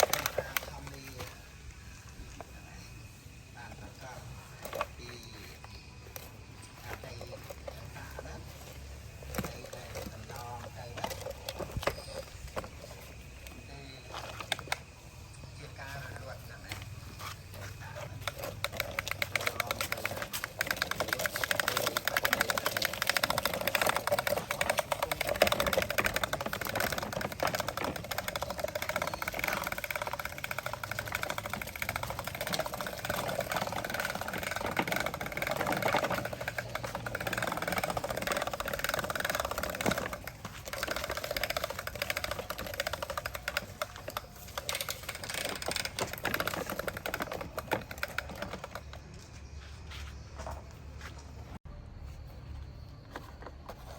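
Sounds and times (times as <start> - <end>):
toy electric motor and gears rattling: 0.0 - 50.7.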